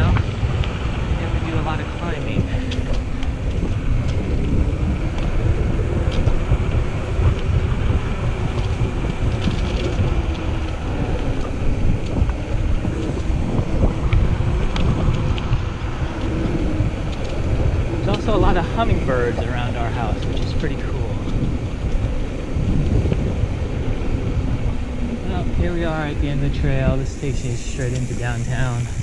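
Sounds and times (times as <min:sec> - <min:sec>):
bike clicks and rattles: 0:00.0 - 0:29.0
bike tyres rolling on dirt: 0:00.0 - 0:29.0
wind noise on microphone: 0:00.0 - 0:29.0.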